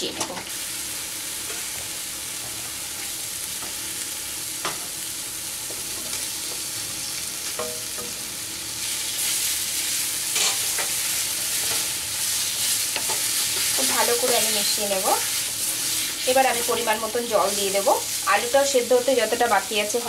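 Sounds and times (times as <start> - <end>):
paste sizzling in oil: 0.5 - 20.0.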